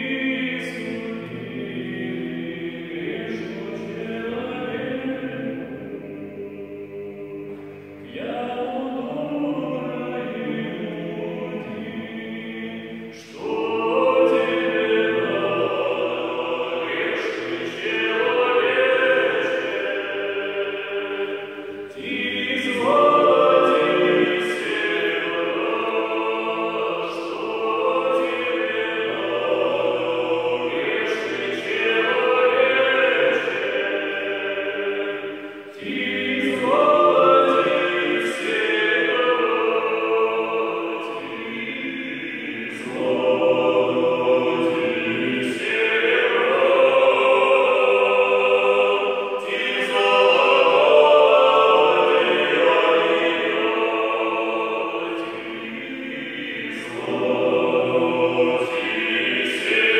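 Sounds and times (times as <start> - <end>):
male trio singing in harmony: 0.0 - 59.9.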